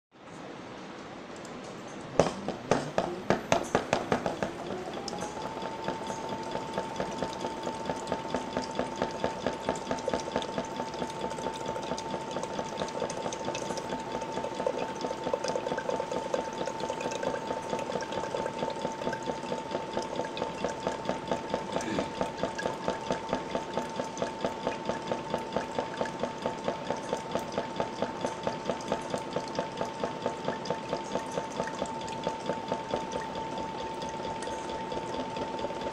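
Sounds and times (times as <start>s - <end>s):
pump whine: 2.1s - 35.9s
liquid pouring into plastic jug: 2.2s - 35.9s.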